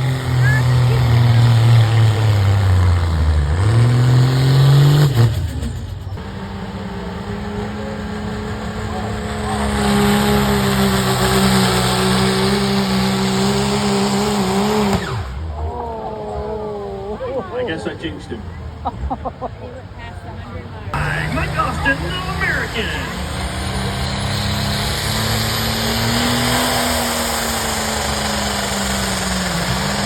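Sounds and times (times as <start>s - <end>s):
diesel pickup engine under load: 0.0s - 16.7s, 20.9s - 30.0s.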